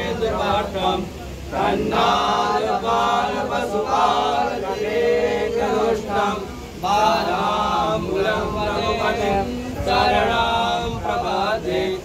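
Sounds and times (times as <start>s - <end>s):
voices chanting a devotional song: 0.0s - 12.0s.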